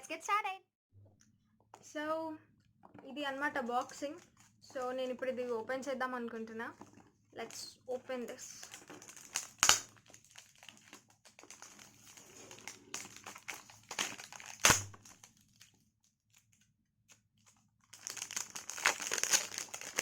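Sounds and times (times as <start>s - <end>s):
packaging crinkling and rustling: 2.9s - 20.0s.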